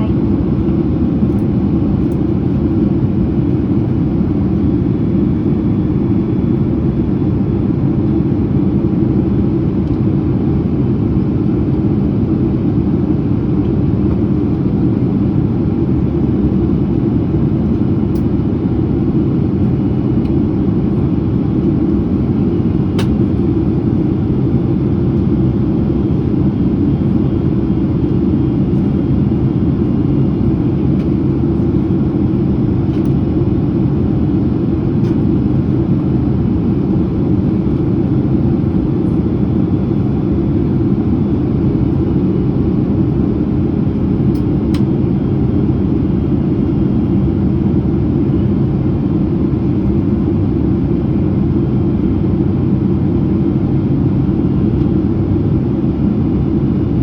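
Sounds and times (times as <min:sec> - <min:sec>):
aircraft cabin engine rumble: 0:00.0 - 0:57.0.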